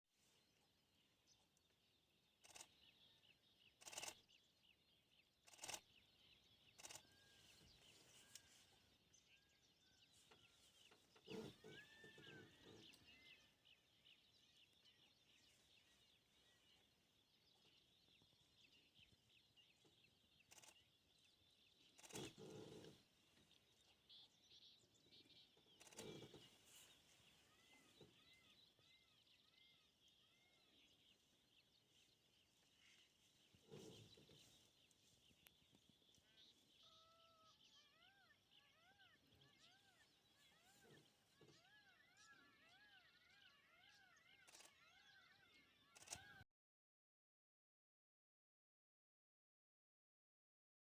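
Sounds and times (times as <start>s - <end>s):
birds chirping: 0.1s - 46.4s.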